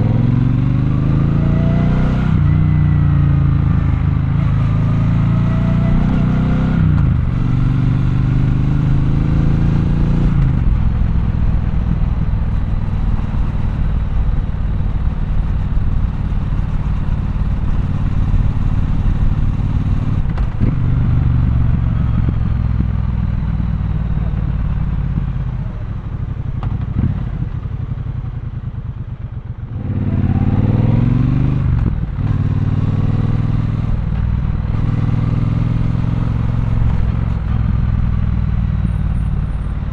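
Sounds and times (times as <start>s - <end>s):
motorcycle engine revving: 0.0s - 28.8s, 29.6s - 39.9s.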